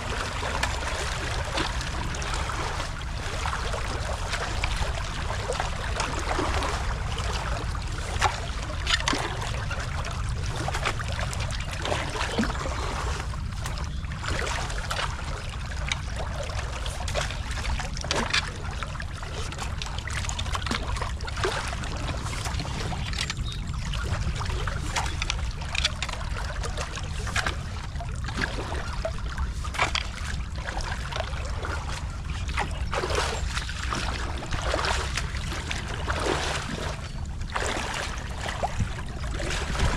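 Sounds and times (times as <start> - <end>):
splashes and knocks: 0.0 - 39.9.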